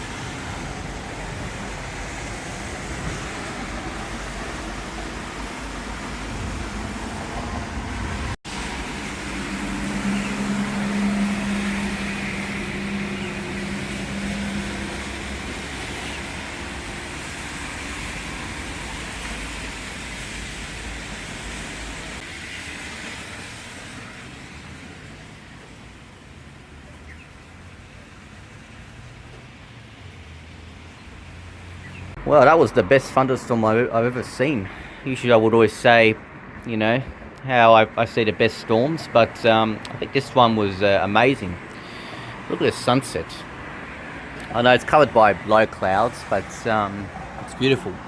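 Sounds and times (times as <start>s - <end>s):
storm wind and rain: 0.0s - 48.0s.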